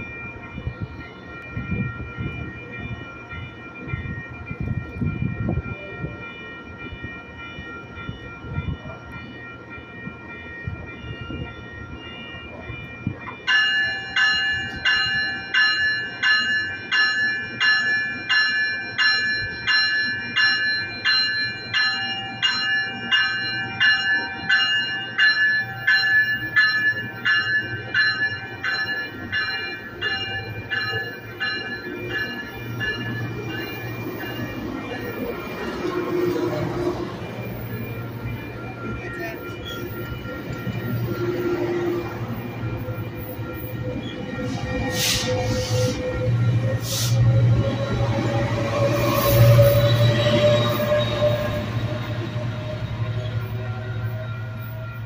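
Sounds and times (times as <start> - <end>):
train rumbling: 0.0 - 55.0
warning bell ringing: 0.0 - 55.0.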